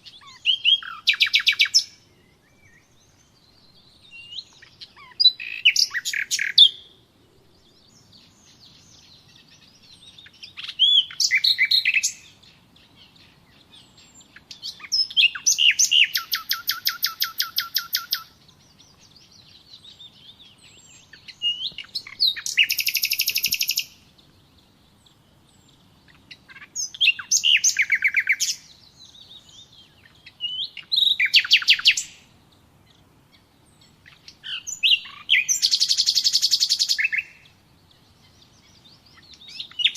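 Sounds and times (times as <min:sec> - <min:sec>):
songbird trilling: 0:00.0 - 0:07.0, 0:07.8 - 0:39.9.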